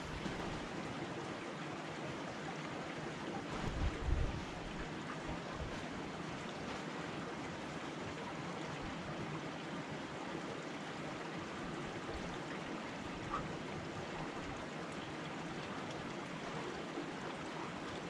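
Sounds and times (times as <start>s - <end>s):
mountain stream rushing: 0.0s - 18.0s.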